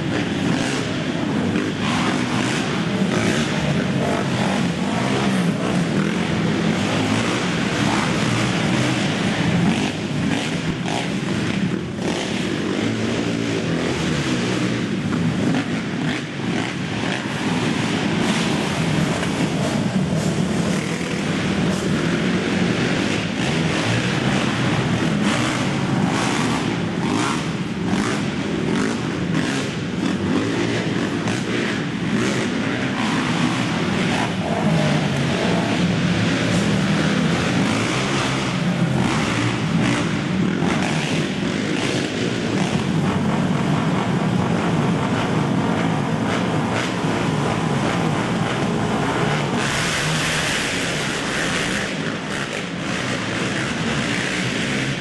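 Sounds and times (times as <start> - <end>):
quad engines running hard: 0.0 - 55.0.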